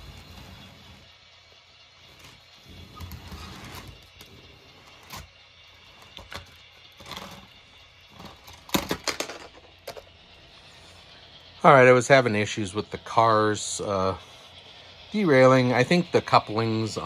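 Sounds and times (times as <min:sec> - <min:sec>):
model train cars clicking and clattering: 0:00.0 - 0:17.0.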